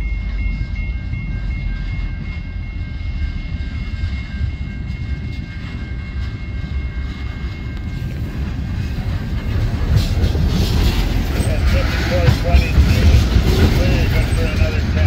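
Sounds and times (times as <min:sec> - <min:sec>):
crossing bell ringing: 0:00.0 - 0:15.0
freight train rumbling past: 0:00.0 - 0:15.0.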